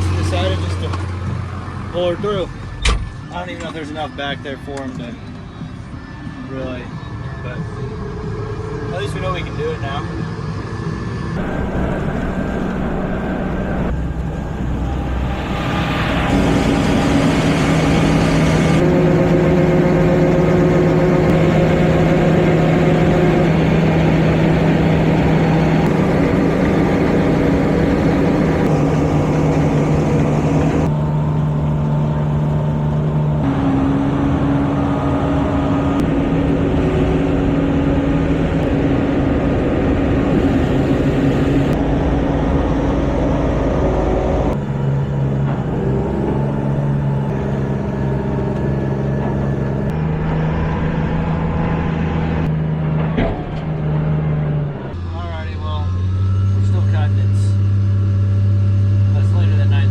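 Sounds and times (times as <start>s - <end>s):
large vehicle engine running: 0.0s - 59.9s.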